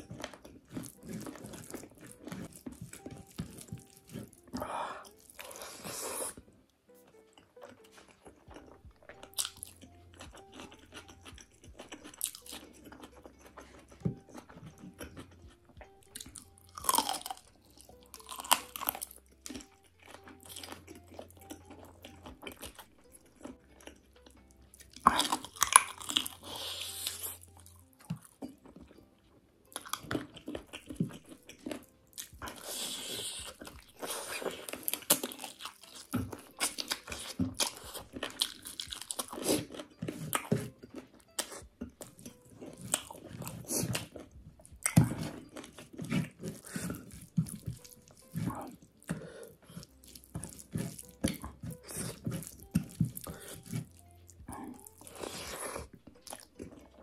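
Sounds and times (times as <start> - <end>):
faint background music: 0.0 - 57.0
wet chewing: 0.0 - 57.0.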